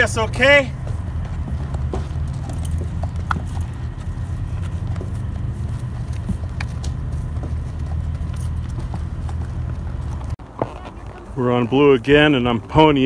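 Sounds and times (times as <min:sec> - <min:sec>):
hooves on dirt: 0:00.0 - 0:13.0
steady low rumble: 0:00.0 - 0:13.0.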